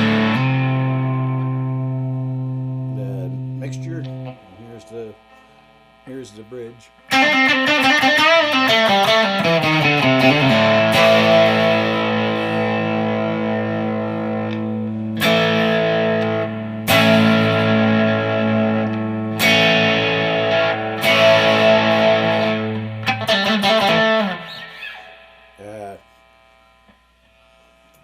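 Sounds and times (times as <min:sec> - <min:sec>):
descending guitar run: 0:00.0 - 0:05.1, 0:07.1 - 0:25.9
guitar chords ringing: 0:00.0 - 0:27.0
overdriven electric guitar: 0:00.0 - 0:28.0.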